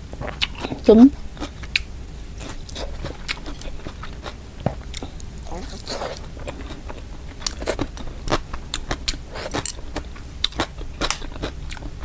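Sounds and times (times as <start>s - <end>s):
person chewing with mouth clicks: 0.1s - 12.0s.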